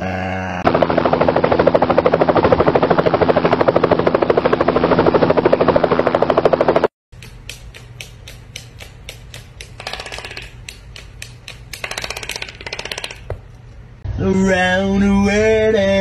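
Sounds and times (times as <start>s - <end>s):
helicopter rotor chopping: 0.6s - 13.5s.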